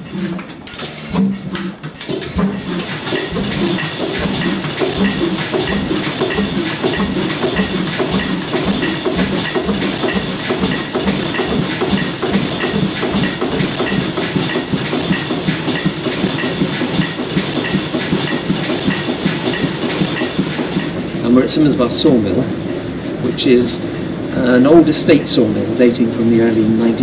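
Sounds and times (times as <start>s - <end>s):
sawmill machinery clattering: 0.0s - 27.0s.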